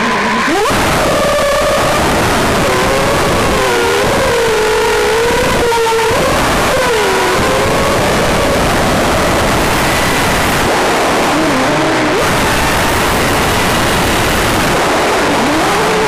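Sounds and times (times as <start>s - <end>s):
drone motors whining: 0.0s - 16.0s
steady rushing noise: 0.0s - 16.0s.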